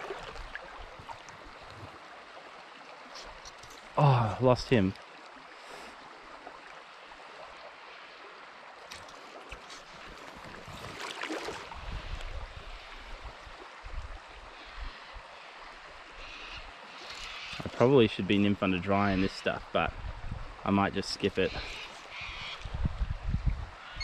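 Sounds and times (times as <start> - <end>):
fast river water flowing: 0.0 - 24.0.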